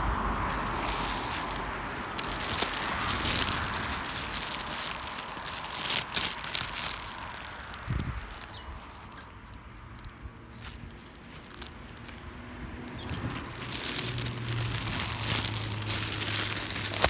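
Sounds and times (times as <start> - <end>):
rustling and crackling: 0.2 - 17.0.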